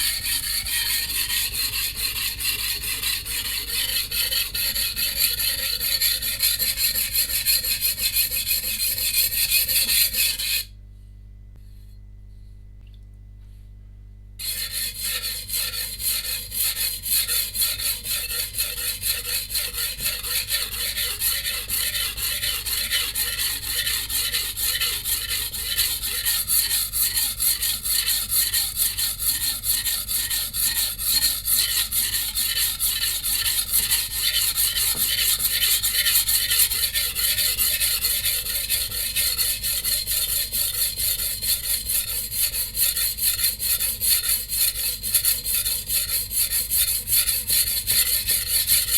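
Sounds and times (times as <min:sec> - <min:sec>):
blade scraping on whetstone: 0:00.0 - 0:10.7, 0:14.4 - 0:48.9.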